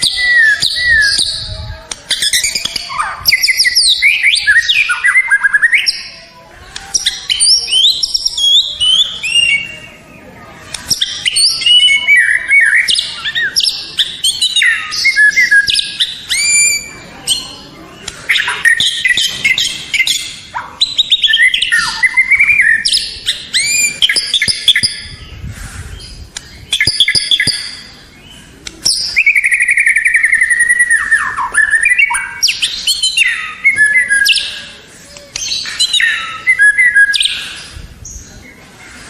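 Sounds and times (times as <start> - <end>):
songbird whistling song: 0.0 - 1.5, 2.1 - 6.2, 6.8 - 38.5.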